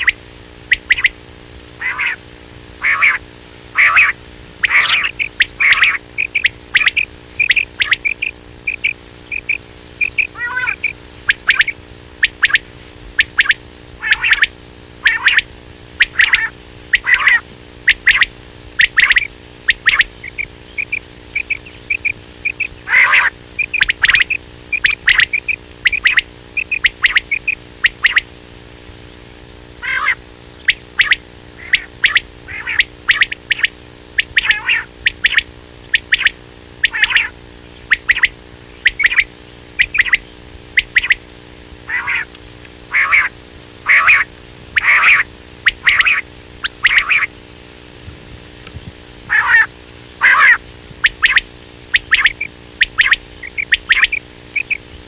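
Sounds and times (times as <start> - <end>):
quail calling: 0.0 - 28.4, 29.1 - 55.0
steady low hum: 0.0 - 55.0.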